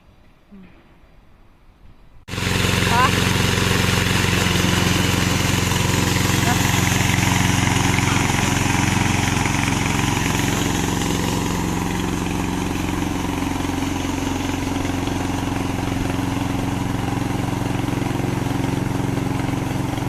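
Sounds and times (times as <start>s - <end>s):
lawn mower engine running: 2.3s - 20.0s.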